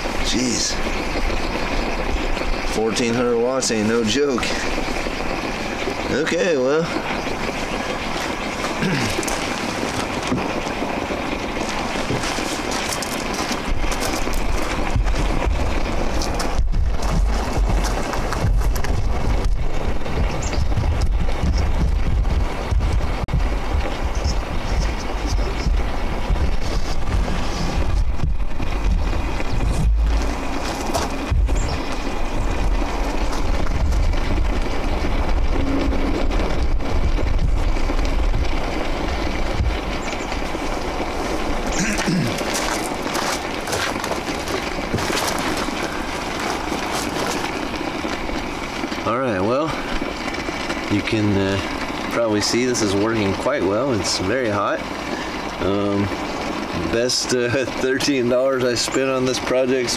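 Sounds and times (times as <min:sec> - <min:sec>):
steam hissing from steamer: 0:00.0 - 0:59.9
wind buffeting microphone: 0:00.0 - 0:59.9.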